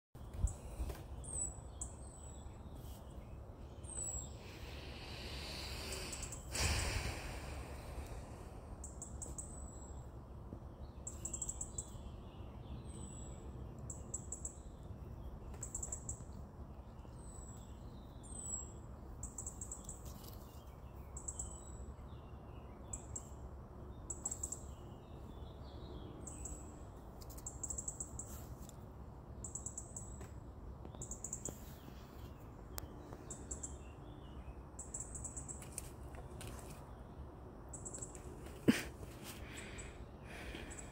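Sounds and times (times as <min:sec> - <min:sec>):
small bird chirping: 0:00.2 - 0:06.6, 0:10.8 - 0:28.8, 0:29.4 - 0:40.9.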